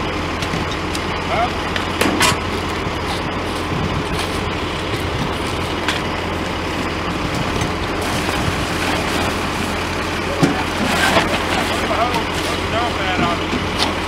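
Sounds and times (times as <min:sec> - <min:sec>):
fire engine idling: 0:00.0 - 0:14.0.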